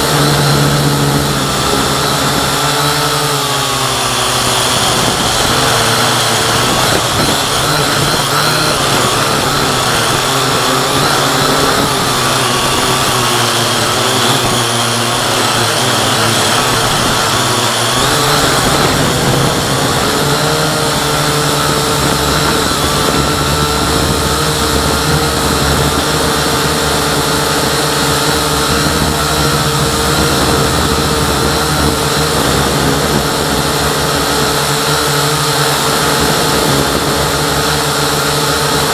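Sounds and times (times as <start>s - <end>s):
drone motors whining: 0.0s - 38.9s.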